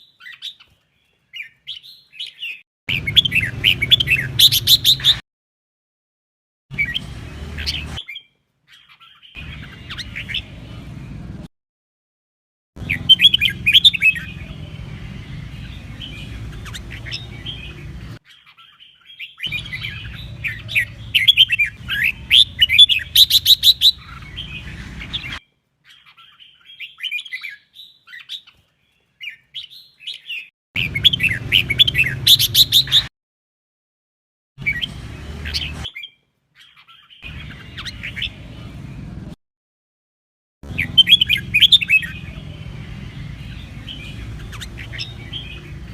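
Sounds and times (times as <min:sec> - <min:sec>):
bird chirping: 0:00.0 - 0:05.2, 0:06.7 - 0:11.5, 0:12.8 - 0:33.1, 0:34.6 - 0:39.3, 0:40.6 - 0:45.9.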